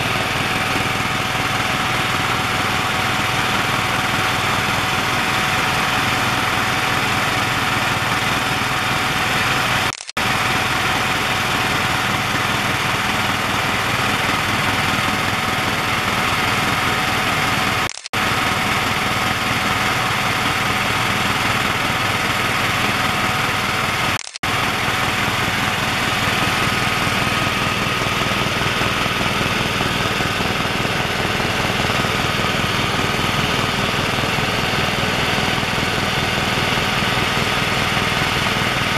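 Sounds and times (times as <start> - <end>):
helicopter rotor and engine noise: 0.0 - 38.9.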